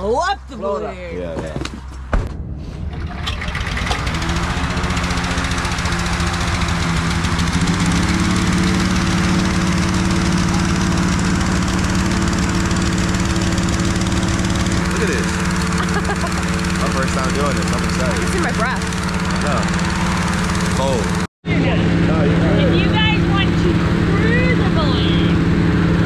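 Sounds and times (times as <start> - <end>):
engine-driven inflator fan running: 3.0 - 26.0.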